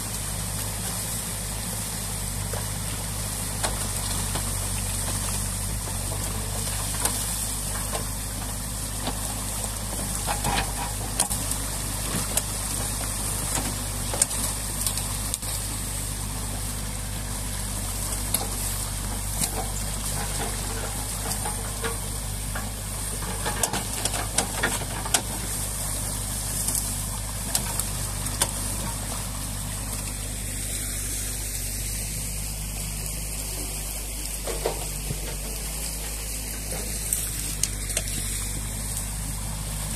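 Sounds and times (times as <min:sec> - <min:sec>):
excavator diesel engine hum: 0:00.0 - 0:39.9
water rushing and splashing: 0:00.0 - 0:39.9.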